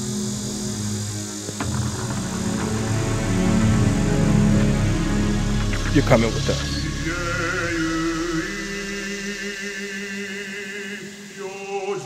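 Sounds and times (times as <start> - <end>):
wordless choir holding notes: 0.0 - 12.0.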